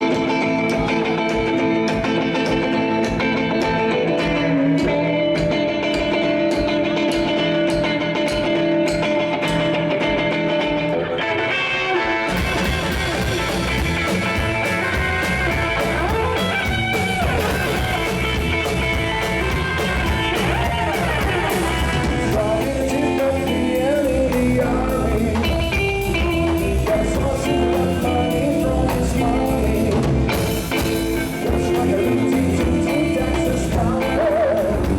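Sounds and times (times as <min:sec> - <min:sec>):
electric guitar: 0:00.0 - 0:34.9
rock and roll band playing: 0:00.0 - 0:34.9.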